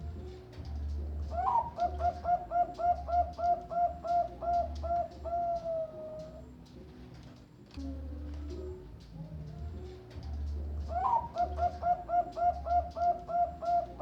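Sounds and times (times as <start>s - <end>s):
dove cooing: 0.0s - 6.6s, 7.8s - 14.0s.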